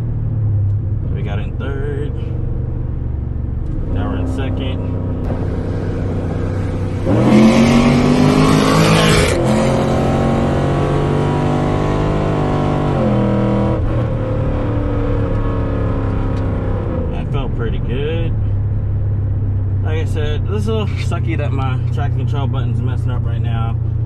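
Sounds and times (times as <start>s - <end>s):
car engine roaring with rising revs: 0.0s - 24.0s.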